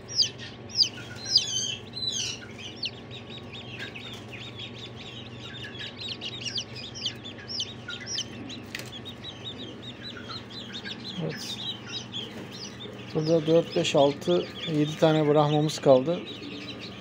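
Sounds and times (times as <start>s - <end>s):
chicks peeping: 0.0s - 17.0s
steady low hum: 0.0s - 17.0s.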